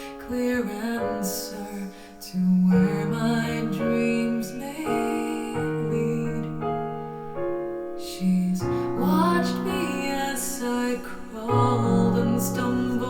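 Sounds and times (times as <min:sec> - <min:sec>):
slow piano music from speakers: 0:00.0 - 0:13.0.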